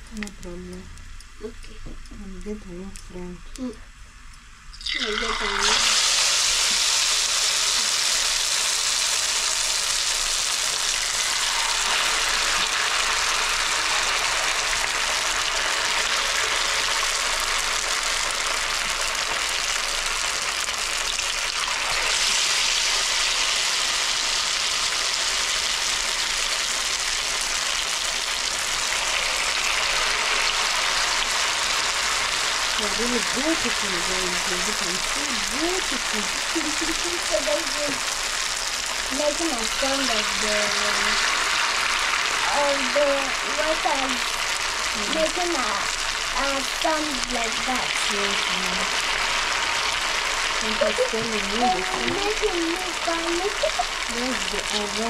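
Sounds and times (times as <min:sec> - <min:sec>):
deep-frying oil sizzling: 0:04.7 - 0:55.0.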